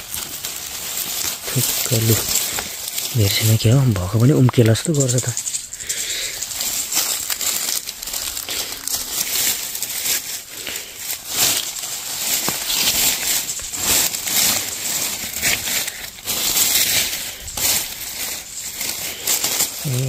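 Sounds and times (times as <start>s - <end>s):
leaves rustling and crackling: 0.0s - 20.0s.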